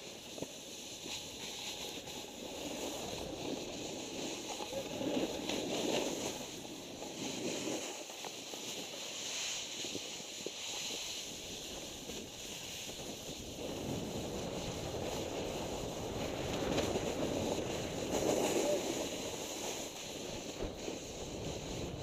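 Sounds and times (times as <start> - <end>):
snowboard scraping over snow: 0.0 - 22.0
wind on microphone: 0.0 - 22.0.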